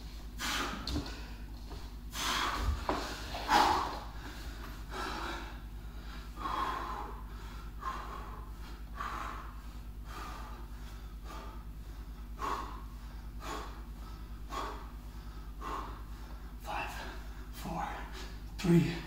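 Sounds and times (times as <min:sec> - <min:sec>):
man breathing hard: 0:00.0 - 0:19.0
steady low hum: 0:00.0 - 0:19.0.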